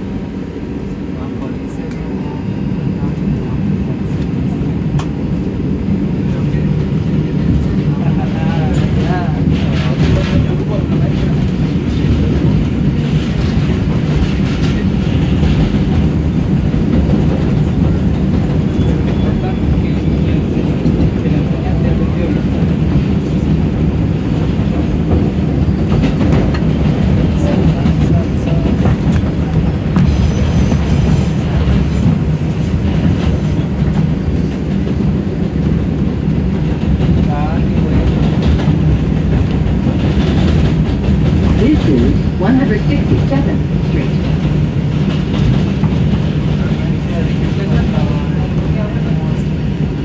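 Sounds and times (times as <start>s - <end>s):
subway train wheels rumbling: 0.0s - 50.0s.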